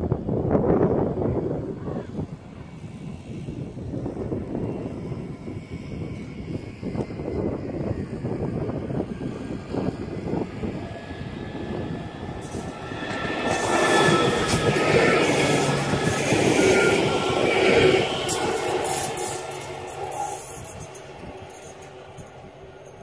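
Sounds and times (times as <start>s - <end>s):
passenger train passing by: 0.0s - 23.0s.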